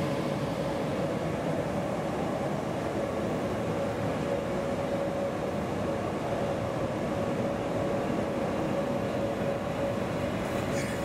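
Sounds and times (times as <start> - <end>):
constant hum: 0.0 - 11.0
train wheels rumbling on rails: 0.0 - 11.0.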